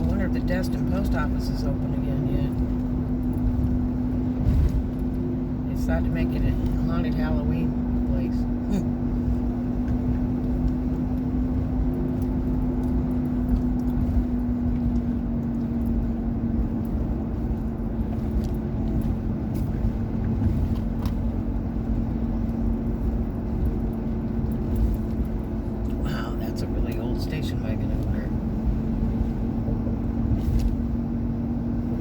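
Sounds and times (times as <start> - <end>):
car cabin engine and road rumble: 0.0 - 32.0.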